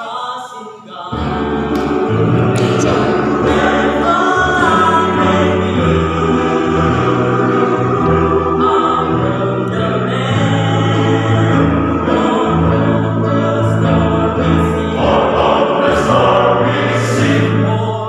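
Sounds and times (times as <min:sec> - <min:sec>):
men's choir singing in harmony: 0:01.1 - 0:18.0.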